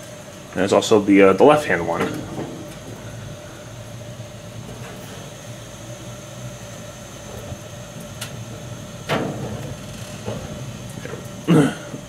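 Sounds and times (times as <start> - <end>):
gas grill burners hissing: 0.0 - 12.0.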